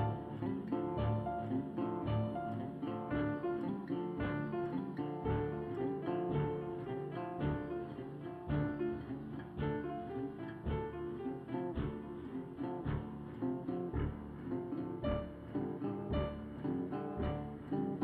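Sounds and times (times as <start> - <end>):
plucked acoustic guitar music: 0.0 - 18.0.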